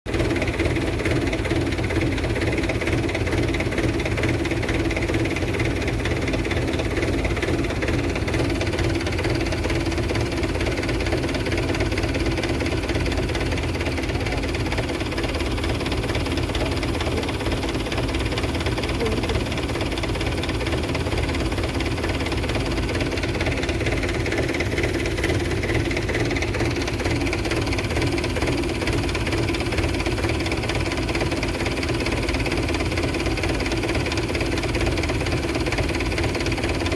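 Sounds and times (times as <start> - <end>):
tractor engine running: 0.1 - 36.9.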